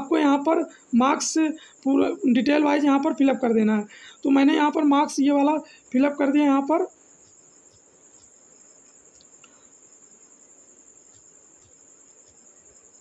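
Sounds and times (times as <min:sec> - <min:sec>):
high-pitched insect trill: 0:00.0 - 0:13.0
room hiss: 0:00.0 - 0:13.0.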